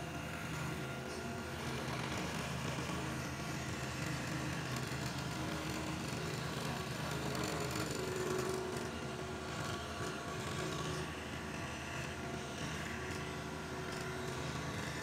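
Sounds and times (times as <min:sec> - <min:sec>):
scroll saw cutting wood: 0:00.0 - 0:15.0.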